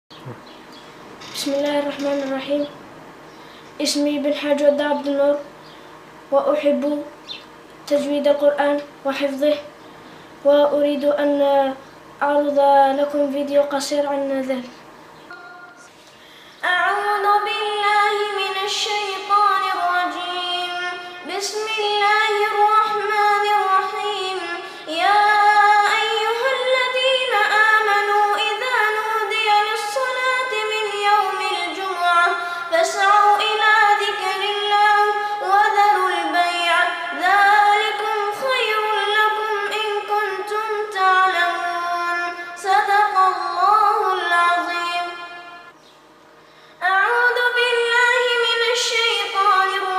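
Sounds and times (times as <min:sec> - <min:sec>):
child reciting melodically: 0:01.3 - 0:02.8, 0:03.8 - 0:05.5, 0:06.3 - 0:07.2, 0:07.8 - 0:09.7, 0:10.4 - 0:15.9, 0:16.6 - 0:45.5, 0:46.8 - 0:49.9.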